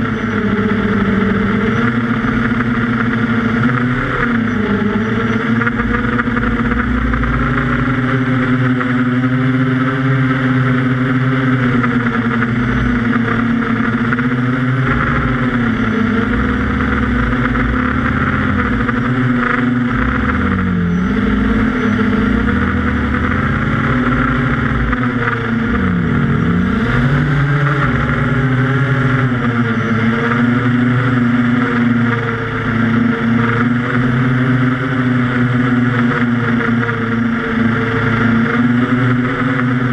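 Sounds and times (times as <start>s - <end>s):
quadcopter propellers droning: 0.0s - 39.9s.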